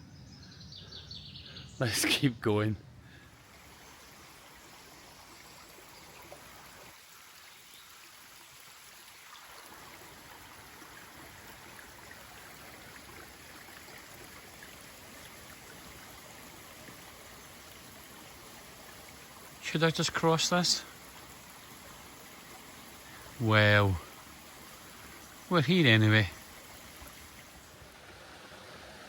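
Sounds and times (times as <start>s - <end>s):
stream water trickling: 1.8s - 29.0s.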